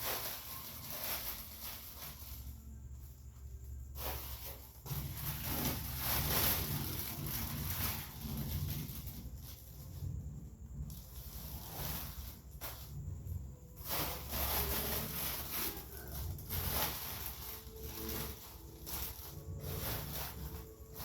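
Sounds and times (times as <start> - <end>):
cellophane crinkling and rustling: 0.0 - 21.0.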